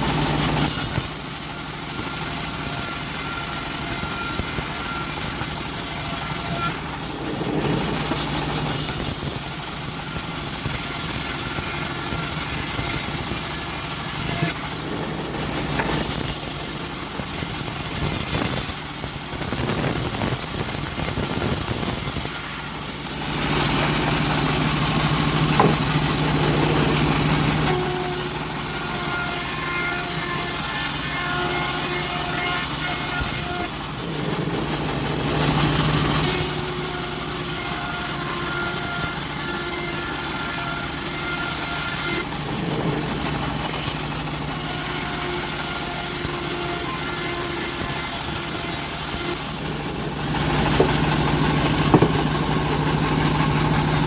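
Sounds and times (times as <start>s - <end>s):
bandsaw mill sawing wood: 0.0s - 54.0s.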